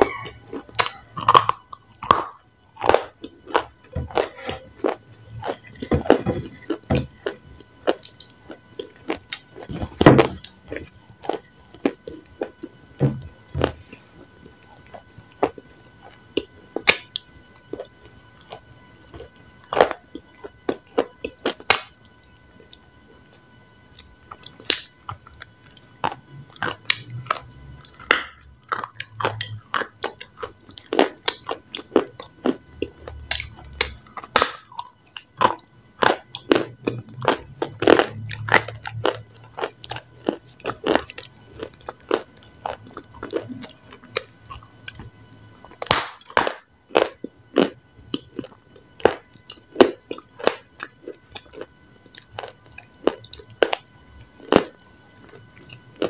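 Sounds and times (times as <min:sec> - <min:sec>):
crunching and chewing: 0:00.0 - 0:56.0.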